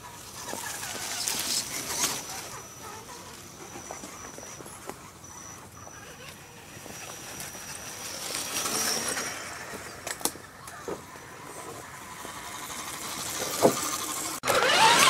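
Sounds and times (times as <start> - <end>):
leaves rustling under tyres: 0.0 - 5.2, 5.9 - 15.0
toy truck motor and drivetrain: 0.0 - 15.0.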